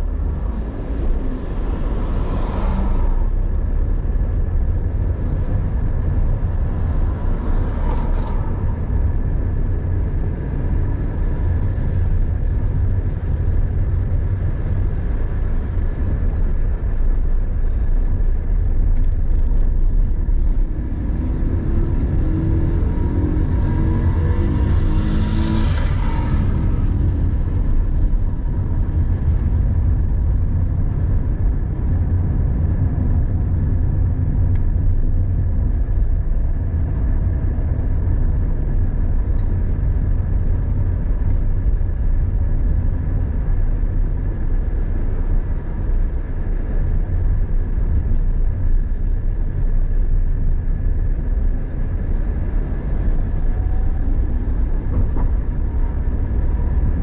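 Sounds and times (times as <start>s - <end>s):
car engine and tyres rumbling: 0.0s - 57.0s
passing traffic: 0.0s - 57.0s.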